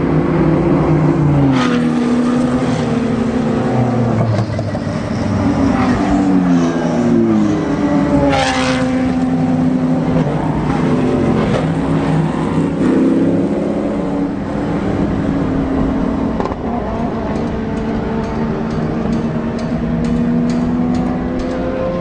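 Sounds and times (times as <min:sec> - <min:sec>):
race cars passing by: 0:00.0 - 0:22.0.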